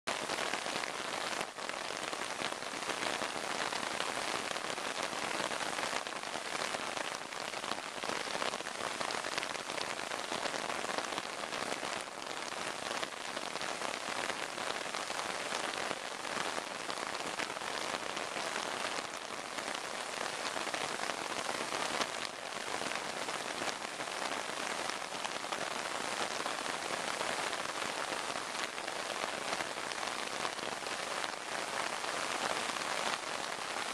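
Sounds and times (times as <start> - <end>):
torrential rain on a river: 0.1 - 33.9.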